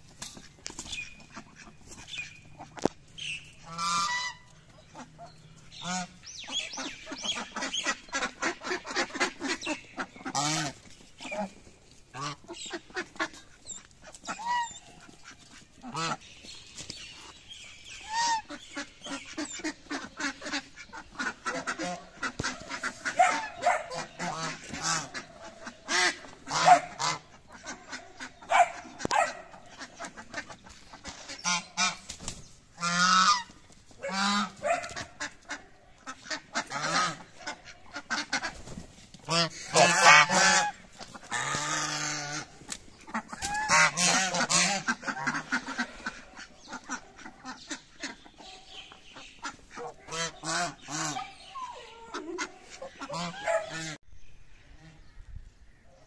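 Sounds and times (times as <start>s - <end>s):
geese honking: 1.2s - 16.3s, 17.8s - 32.1s, 32.7s - 54.0s.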